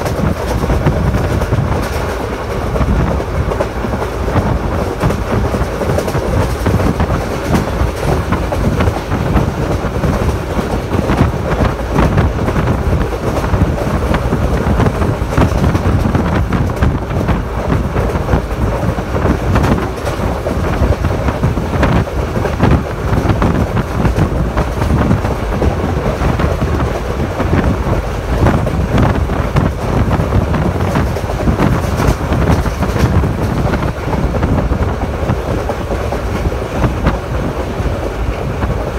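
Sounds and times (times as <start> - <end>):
rapid clatter of clicks: 0.0 - 27.8, 28.4 - 37.3
train wheels rumbling on track: 0.0 - 38.9.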